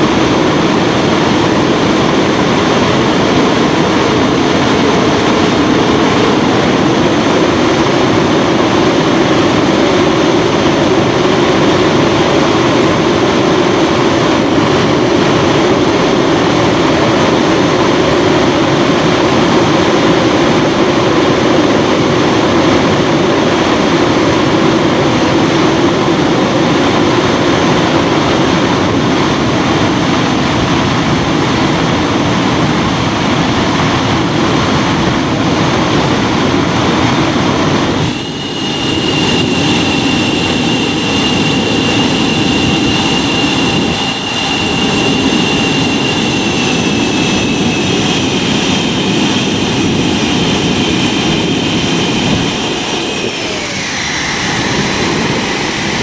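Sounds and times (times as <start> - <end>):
high engine whine: 0.0 - 56.0
turbojet engine running: 0.0 - 56.0.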